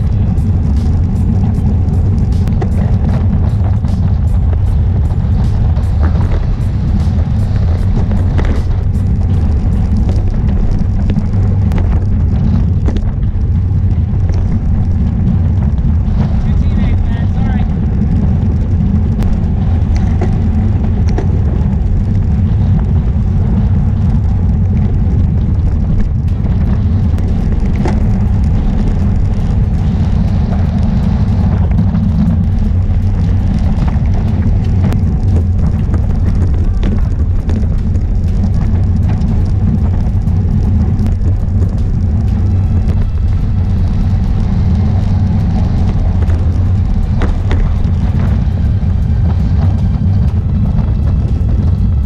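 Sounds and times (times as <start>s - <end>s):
bike tyre and road noise: 0.0s - 52.0s
wind buffeting microphone: 0.0s - 52.0s.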